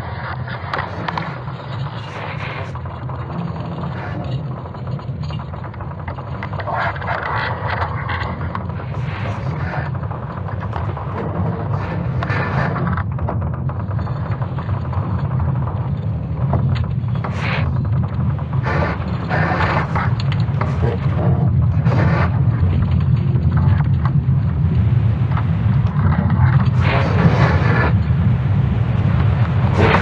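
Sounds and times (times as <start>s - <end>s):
continuous deep rumble: 0.0s - 30.0s
creaking grinding and scraping: 0.0s - 30.0s.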